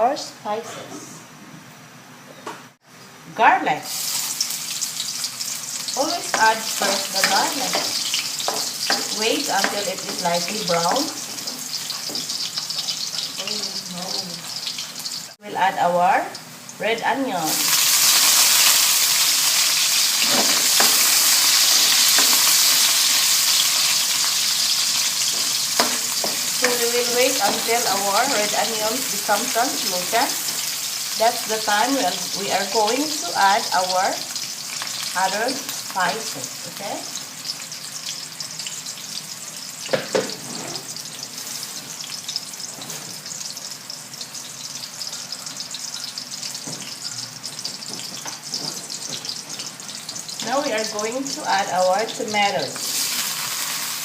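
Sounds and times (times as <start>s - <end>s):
onion and garlic sizzling in oil: 3.4s - 54.0s.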